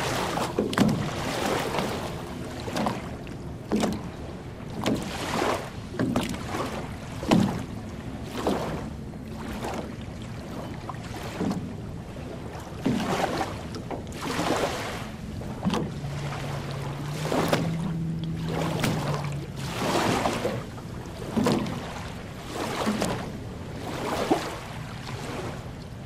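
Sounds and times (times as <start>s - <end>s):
waves lapping on sandy shore: 0.0s - 26.0s
wind rumble on microphone: 0.0s - 26.0s.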